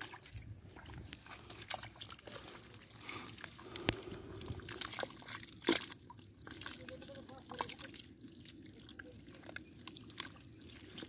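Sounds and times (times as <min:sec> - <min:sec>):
hands scooping wet mud: 0:00.0 - 0:11.0.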